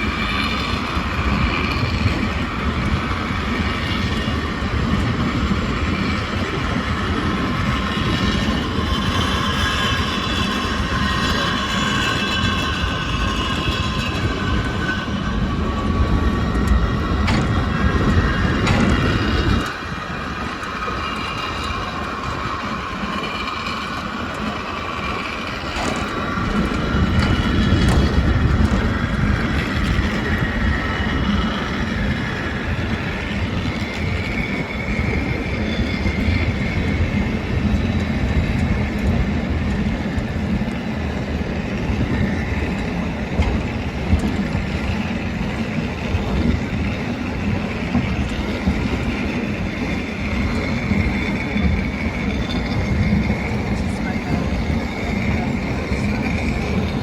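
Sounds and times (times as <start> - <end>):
high wavering wheel squeal: 0.0 - 57.0
wheels rumbling on rails: 0.0 - 57.0.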